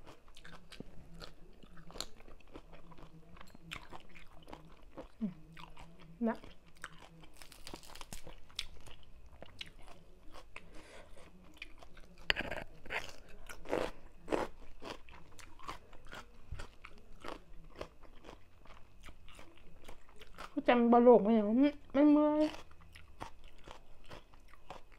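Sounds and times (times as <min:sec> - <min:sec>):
close-up chewing with crisp crunches: 0:00.0 - 0:20.8, 0:22.3 - 0:24.9.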